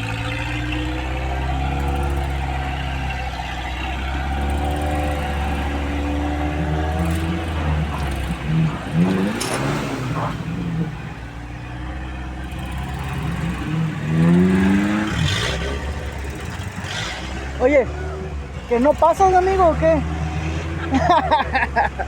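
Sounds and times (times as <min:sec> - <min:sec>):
indistinct voices: 0:00.0 - 0:22.0
vehicle engine idling: 0:00.0 - 0:22.0.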